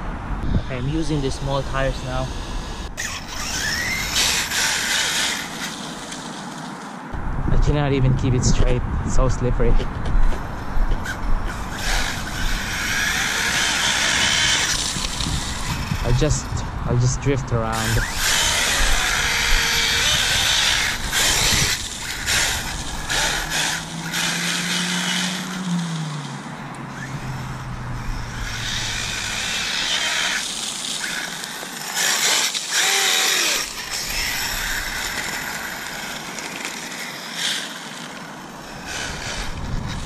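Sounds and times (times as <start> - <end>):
rc car electric motor bursts: 0.4 - 6.8, 11.0 - 16.6, 17.6 - 40.0
tyres spinning and sliding: 0.6 - 7.2, 10.3 - 40.0.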